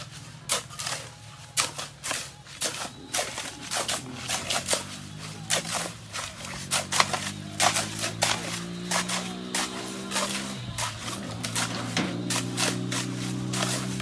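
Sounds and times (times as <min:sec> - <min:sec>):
low steady hum: 0:00.0 - 0:14.0
sharp irregular taps: 0:00.5 - 0:14.0.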